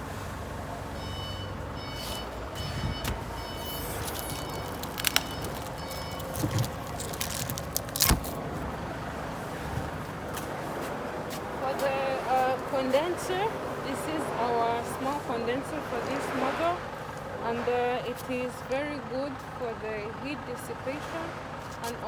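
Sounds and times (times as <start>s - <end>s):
steady background noise: 0.0s - 20.8s.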